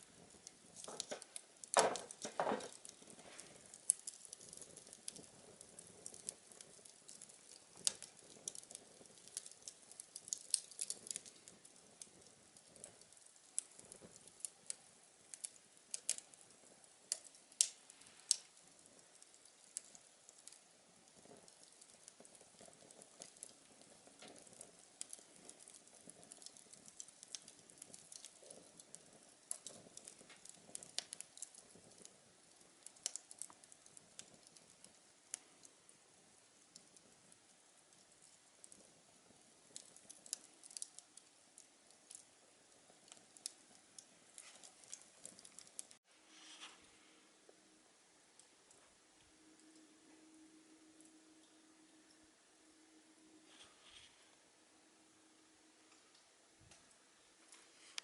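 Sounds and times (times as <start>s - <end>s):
faint low hiss: 0.0s - 58.0s
wood fire crackling: 0.0s - 58.0s.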